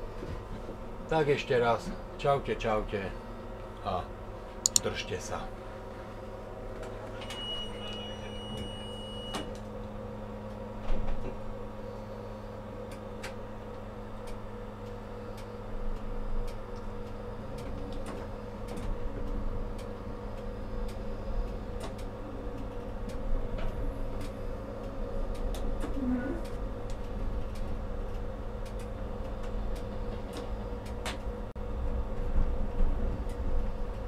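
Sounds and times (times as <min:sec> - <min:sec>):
tram electric hum: 0:00.0 - 0:34.0.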